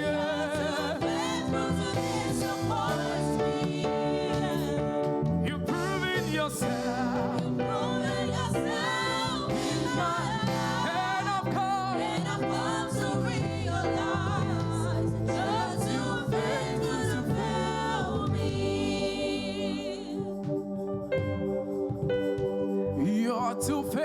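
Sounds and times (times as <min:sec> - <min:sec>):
choir singing with vibrato: 0:00.0 - 0:24.0
keyboard and bass backing: 0:00.0 - 0:24.0.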